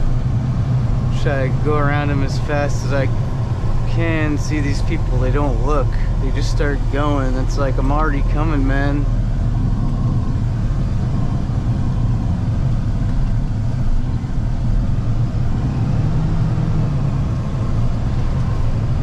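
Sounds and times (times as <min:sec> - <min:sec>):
truck engine and road drone: 0:00.0 - 0:19.0.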